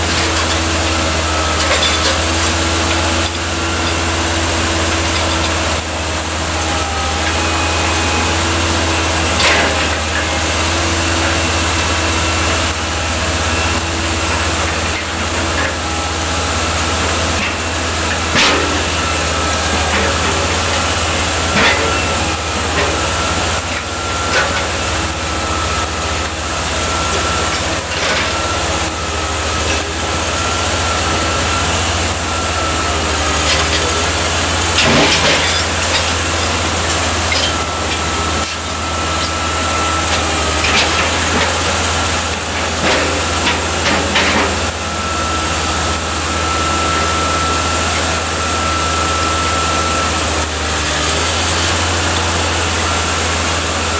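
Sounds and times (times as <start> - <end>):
crane diesel engine droning: 0.0 - 53.9.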